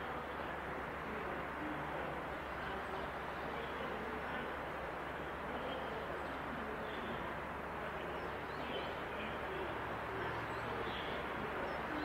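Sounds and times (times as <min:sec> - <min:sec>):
steady outdoor rumble: 0:00.0 - 0:12.0.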